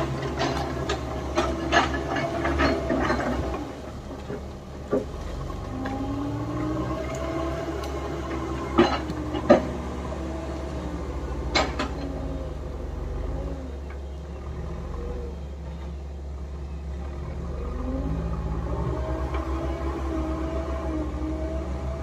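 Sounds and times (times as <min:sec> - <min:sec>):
diesel engines running under load: 0:00.0 - 0:22.0.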